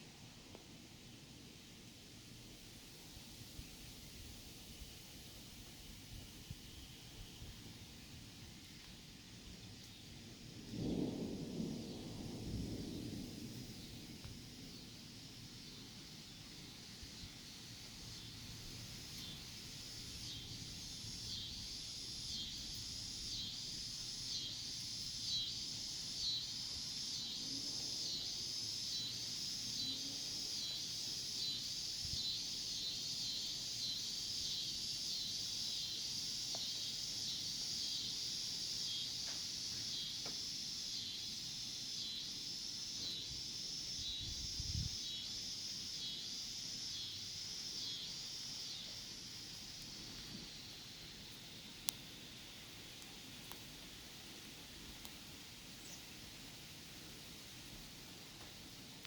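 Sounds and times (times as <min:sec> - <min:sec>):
insects pulsing chorus: 0:09.5 - 0:59.0.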